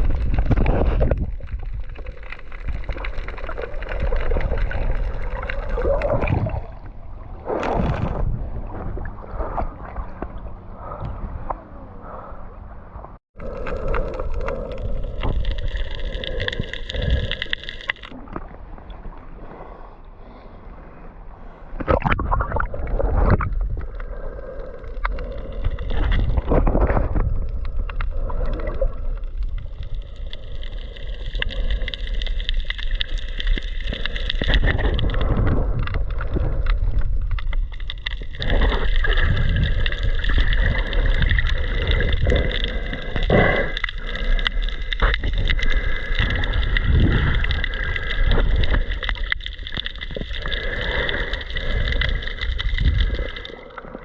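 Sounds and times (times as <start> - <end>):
water splashing: 0.0 - 11.3, 21.6 - 54.0
wind and water noise: 0.0 - 54.0.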